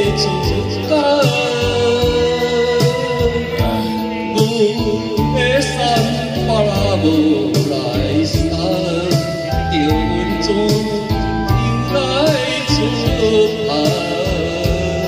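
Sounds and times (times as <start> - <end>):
karaoke backing track with drum beat: 0.0 - 15.0
man singing into a microphone: 0.0 - 15.0.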